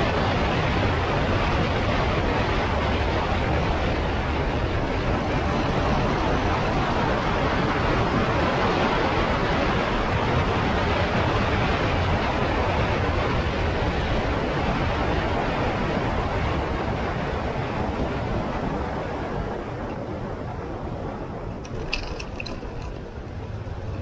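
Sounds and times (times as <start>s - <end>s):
wind rush on microphone: 0.0s - 24.0s.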